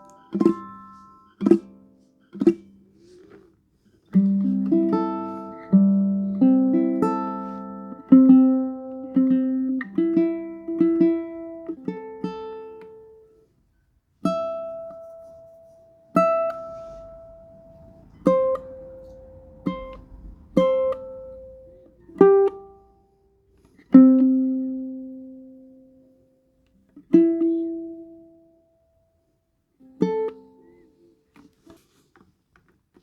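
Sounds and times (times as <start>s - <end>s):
ukulele plucked chords: 0.0s - 3.2s, 4.1s - 13.4s, 14.2s - 29.1s, 29.8s - 30.9s.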